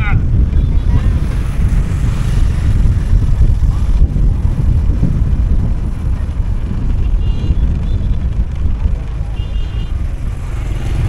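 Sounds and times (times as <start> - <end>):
vehicle running: 0.0 - 11.0
wind buffeting microphone: 0.0 - 11.0.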